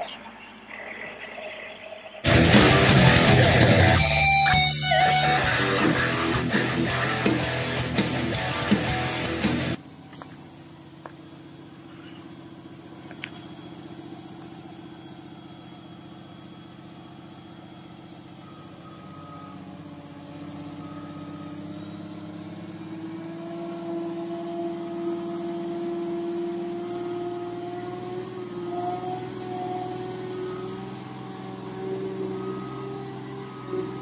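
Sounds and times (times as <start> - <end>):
heavy equipment engine revving: 2.2 - 9.8, 11.0 - 34.0.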